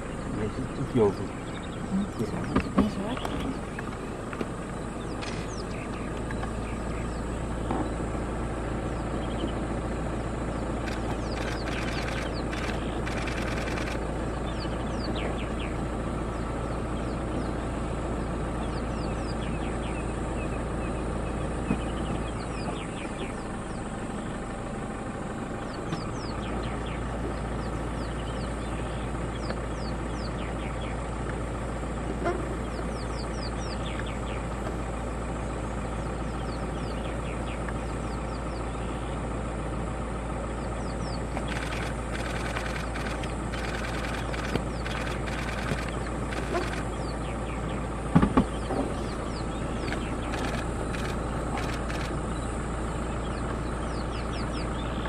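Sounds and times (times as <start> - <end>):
birds chirping: 0.0 - 55.0
vehicle engine idling: 0.0 - 55.0.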